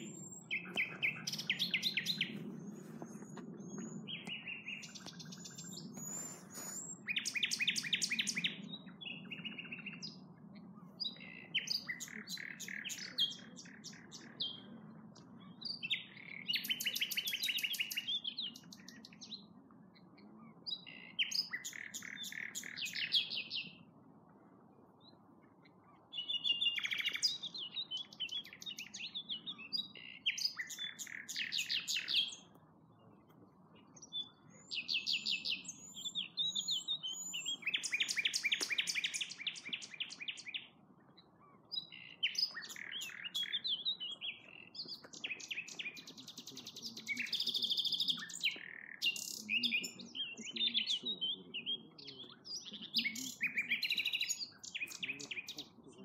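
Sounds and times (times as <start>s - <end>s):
nightingale singing: 0.0s - 23.8s, 25.0s - 33.1s, 33.8s - 56.0s.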